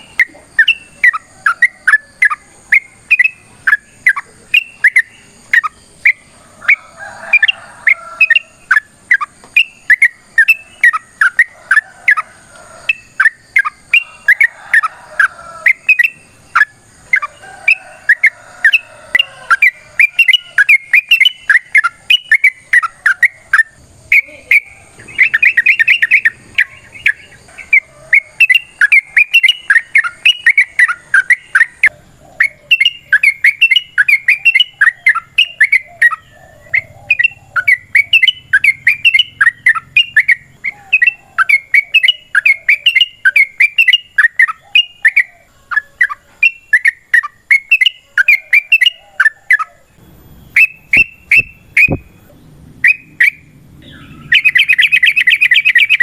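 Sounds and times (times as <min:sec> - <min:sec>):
bird singing bubbly chirps: 0:00.0 - 0:12.2, 0:12.8 - 0:56.0.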